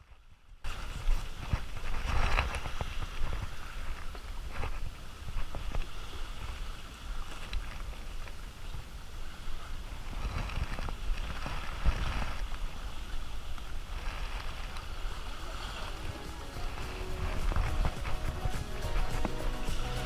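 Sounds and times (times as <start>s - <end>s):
life vest rustling: 0.7s - 8.4s, 10.0s - 20.0s
wind buffeting microphone: 0.7s - 19.9s.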